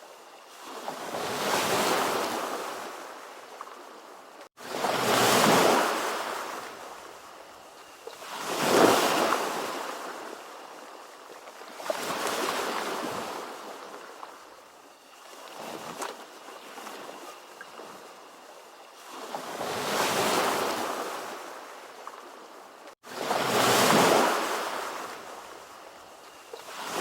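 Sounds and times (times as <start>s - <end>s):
ocean waves washing in: 0.0s - 27.0s.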